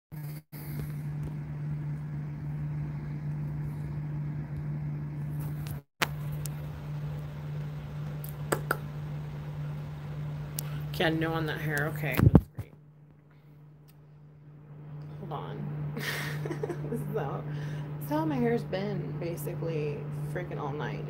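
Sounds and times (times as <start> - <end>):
steady low hum: 0.1 - 21.0.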